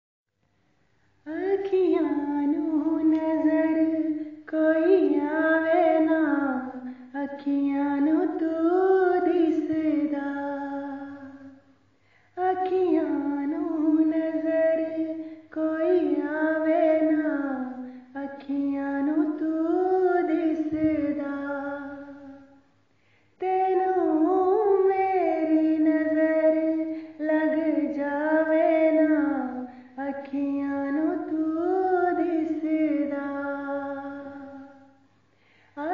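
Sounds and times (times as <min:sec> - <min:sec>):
woman singing unaccompanied: 0:01.2 - 0:11.7, 0:12.4 - 0:22.6, 0:23.4 - 0:35.0.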